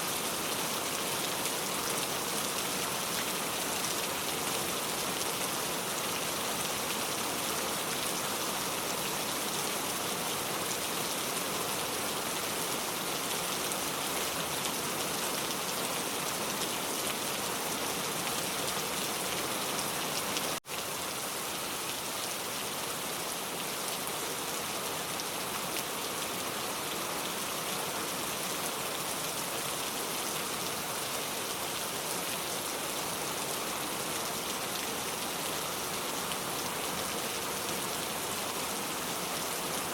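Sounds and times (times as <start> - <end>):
rain falling on a car: 0.1 - 39.9.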